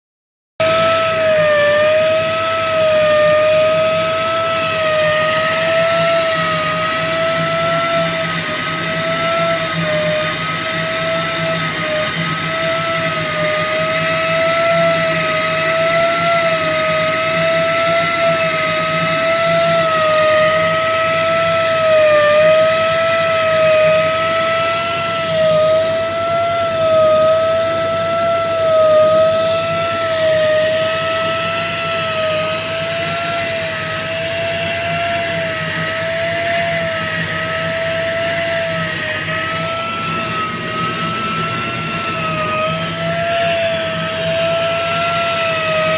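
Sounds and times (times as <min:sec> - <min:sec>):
grinding machine whine: 0:00.6 - 0:45.9.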